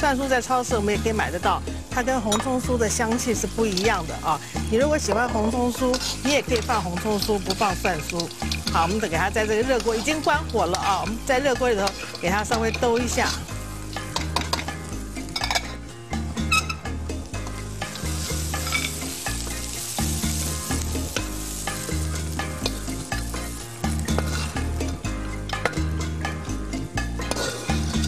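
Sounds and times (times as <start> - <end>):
food sizzling lightly: 0.0 - 28.0
metal spatula scraping wok: 0.0 - 28.0.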